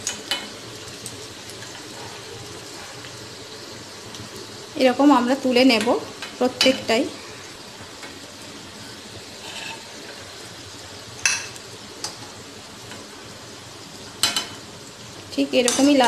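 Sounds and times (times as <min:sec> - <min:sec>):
dough deep-frying in oil: 0:00.0 - 0:16.0.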